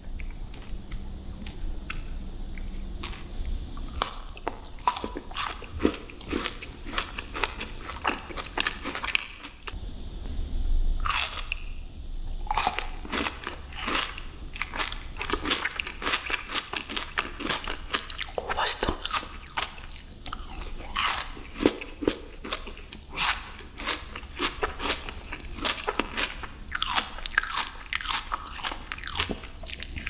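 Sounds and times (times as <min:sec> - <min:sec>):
crunchy sweet being chewed: 0:00.0 - 0:09.8, 0:10.8 - 0:11.7, 0:12.3 - 0:30.0.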